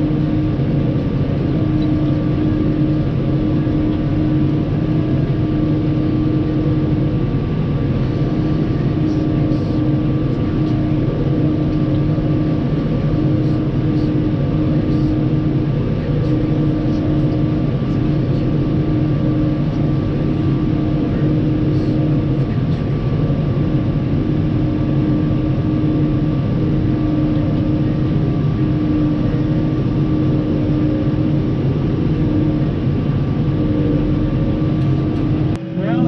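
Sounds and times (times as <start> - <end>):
combine harvester engine drone: 0.0 - 36.0
steady machine whine: 0.0 - 36.0.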